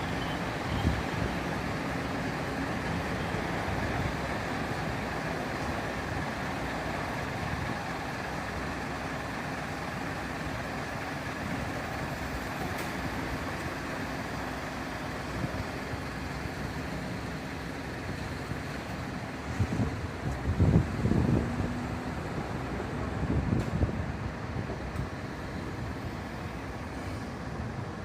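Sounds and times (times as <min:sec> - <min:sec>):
large vehicle engine idling: 0:00.0 - 0:28.0.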